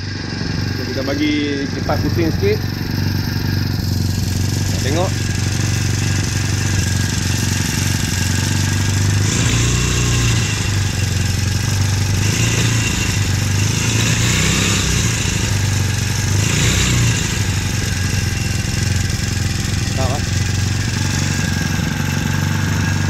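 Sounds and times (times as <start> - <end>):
small outboard engine running: 0.0 - 23.0.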